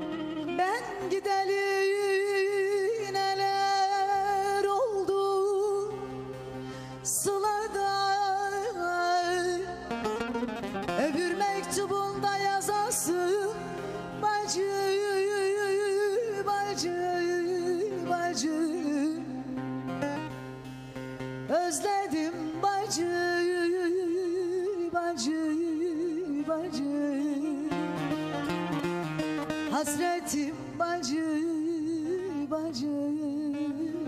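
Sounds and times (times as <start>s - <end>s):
plucked string instrument: 0.0s - 34.0s
woman singing folk song: 0.0s - 34.0s.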